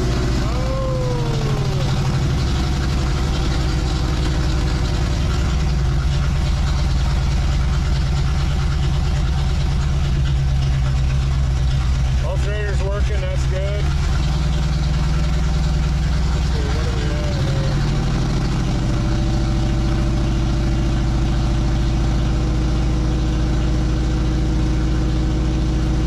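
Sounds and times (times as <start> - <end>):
car engine fast idling: 0.0 - 26.0.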